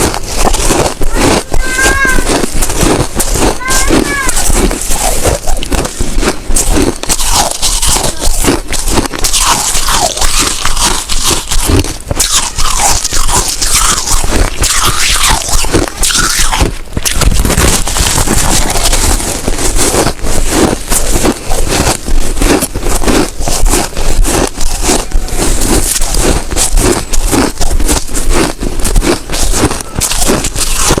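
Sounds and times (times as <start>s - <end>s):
ice being chewed: 0.0s - 31.0s.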